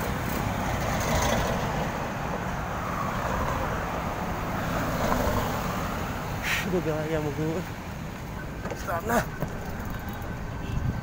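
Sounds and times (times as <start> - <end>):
road and traffic rumble: 0.0 - 11.0.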